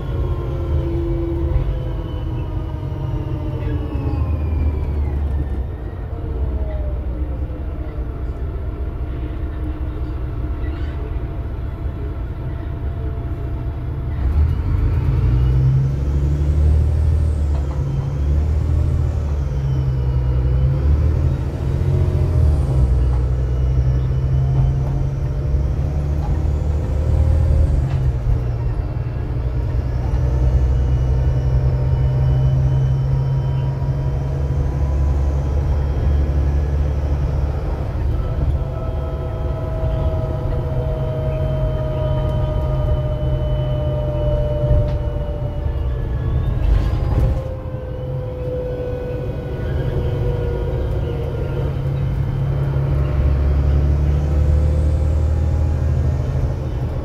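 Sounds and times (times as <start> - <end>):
bus engine rumbling: 0.0 - 57.0.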